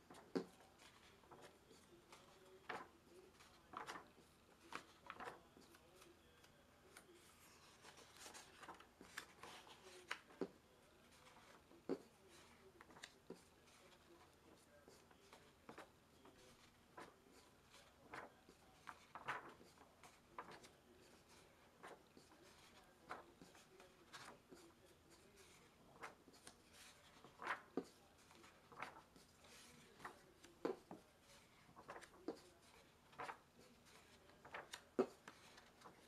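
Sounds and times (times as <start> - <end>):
paper pages rustling: 0.0 - 36.0.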